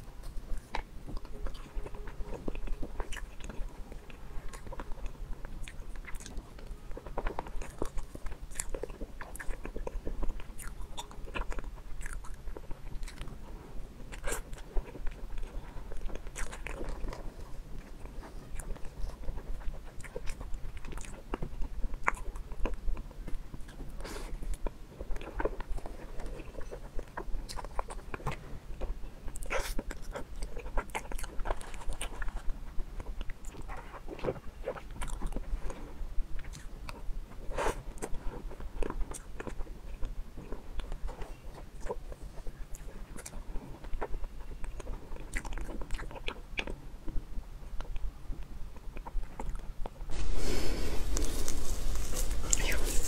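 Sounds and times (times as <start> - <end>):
wet chewing and lip smacks: 0.0 - 13.4, 14.1 - 50.4, 51.0 - 53.0.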